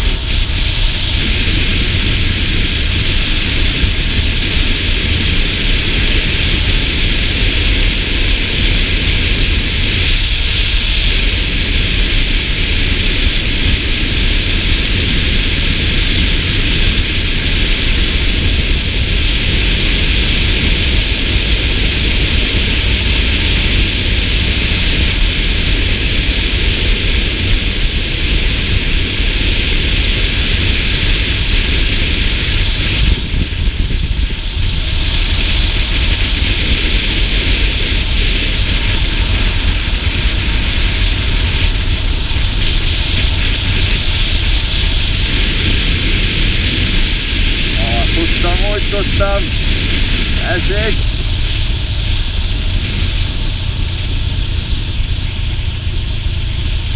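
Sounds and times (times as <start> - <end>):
low wind buffeting: 0.0 - 56.9
road noise: 0.0 - 56.9
wind rushing over microphone: 0.0 - 56.9.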